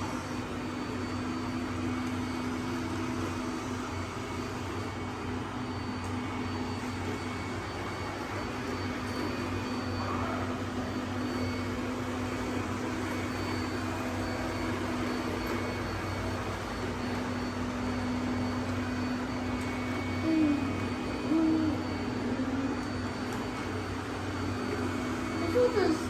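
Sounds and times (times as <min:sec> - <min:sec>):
robot vacuum cleaners whirring: 0:00.0 - 0:26.0.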